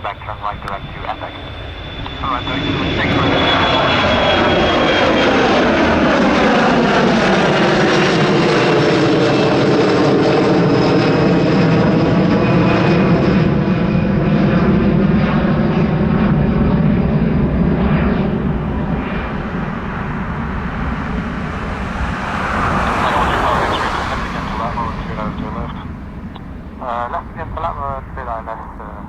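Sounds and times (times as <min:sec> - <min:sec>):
jet airliner passing: 0:00.0 - 0:29.0.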